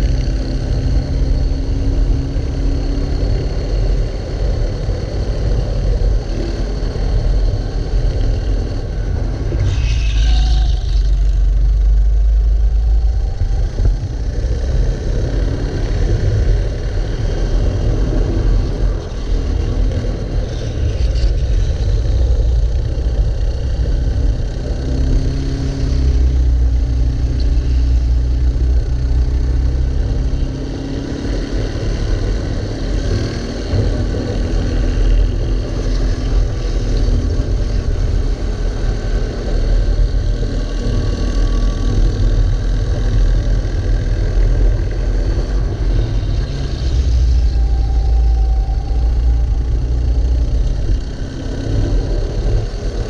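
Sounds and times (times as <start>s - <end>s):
racing kart engine: 0.0s - 53.0s.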